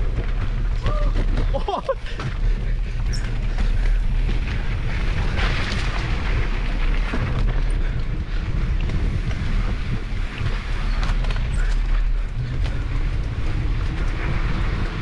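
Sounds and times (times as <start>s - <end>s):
mountain bike rumbling and rattling: 0.0s - 15.0s
wind buffeting microphone: 0.0s - 15.0s.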